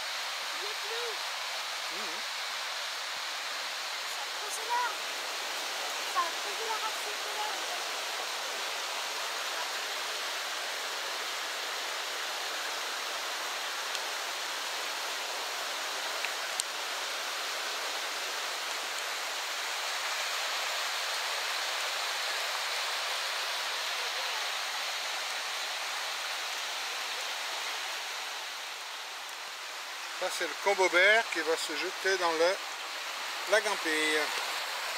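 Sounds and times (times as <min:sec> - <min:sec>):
flooded river rushing: 0:00.0 - 0:34.9.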